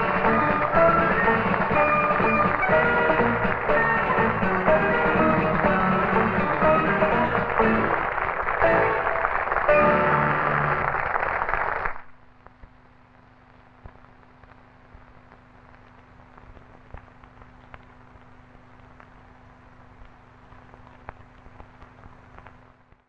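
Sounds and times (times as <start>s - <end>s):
crackles and clicks: 0.0s - 23.0s.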